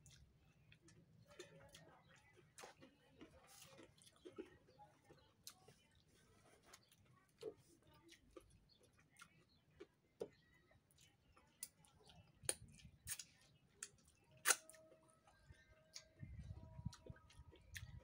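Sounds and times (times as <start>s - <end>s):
man chewing raw vegetables: 0.0s - 18.0s.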